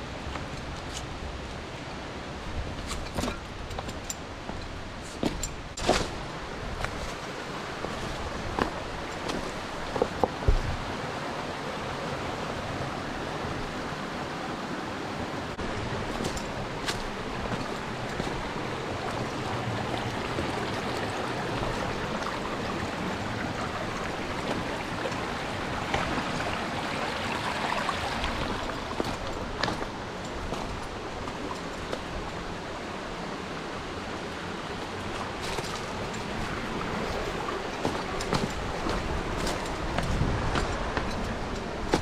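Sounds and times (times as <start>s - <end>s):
running water in a stream: 0.0s - 42.0s.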